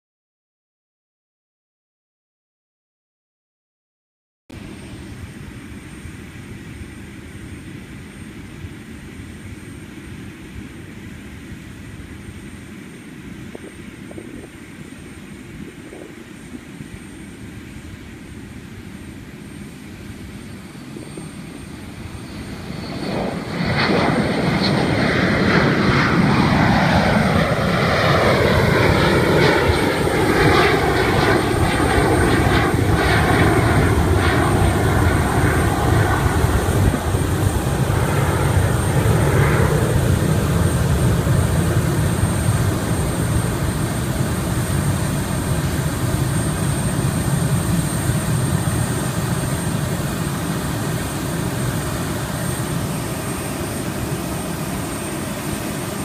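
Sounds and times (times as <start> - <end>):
jet engines roaring: 4.6 - 56.0.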